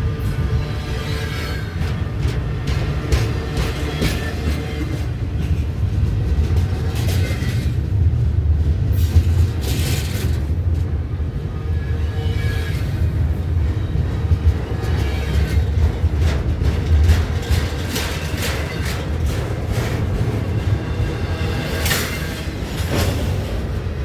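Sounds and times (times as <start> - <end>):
freight train rumbling: 0.0 - 24.0.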